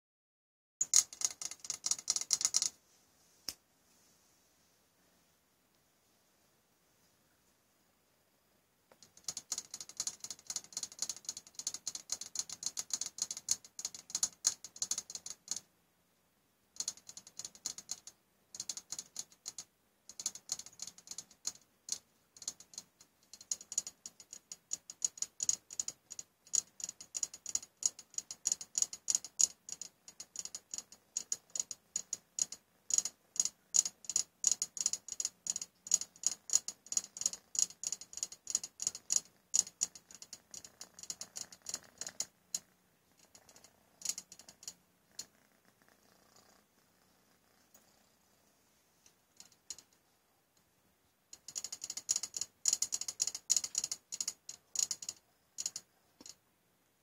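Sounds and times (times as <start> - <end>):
rapid irregular clicking: 0.8 - 2.8, 8.9 - 15.7, 16.8 - 48.2, 49.0 - 50.7, 51.3 - 56.4.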